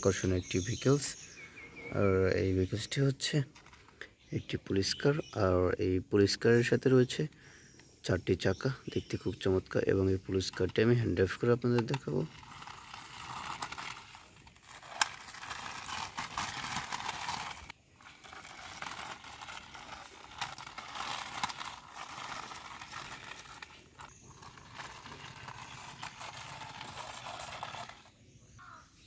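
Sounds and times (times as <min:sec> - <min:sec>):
toy wheels rolling on brick: 0:01.9 - 0:05.7, 0:08.6 - 0:28.8.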